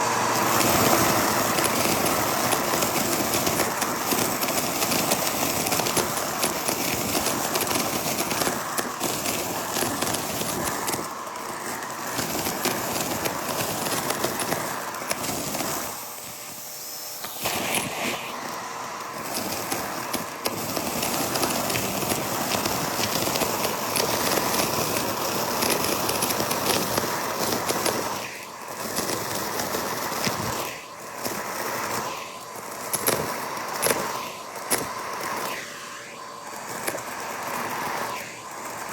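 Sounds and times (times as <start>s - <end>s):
vacuum cleaner sucking up debris: 0.0s - 38.9s.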